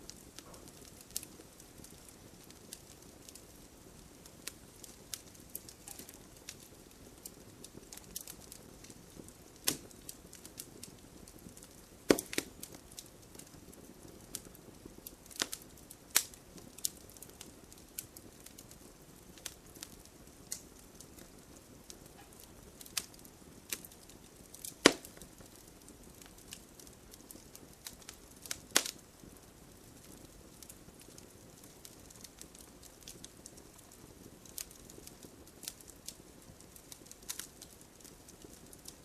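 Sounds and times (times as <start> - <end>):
wood campfire crackling: 0.0 - 39.0.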